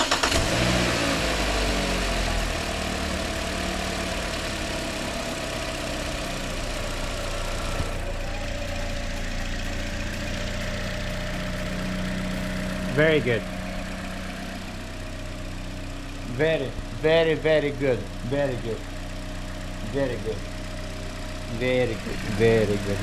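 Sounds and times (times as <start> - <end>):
car engine starting and idling: 0.0 - 23.0.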